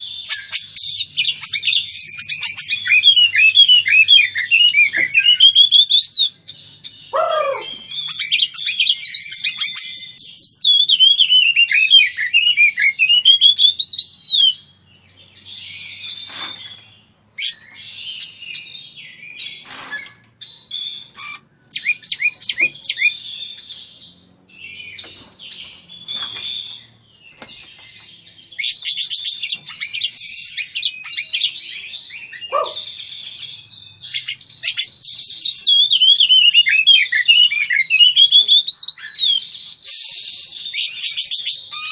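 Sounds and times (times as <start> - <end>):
birds singing and calling: 0.0 - 41.9.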